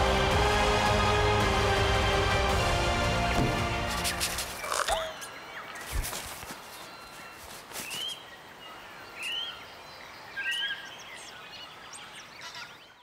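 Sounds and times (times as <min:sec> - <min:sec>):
outdoor nature ambience: 0:00.0 - 0:13.0.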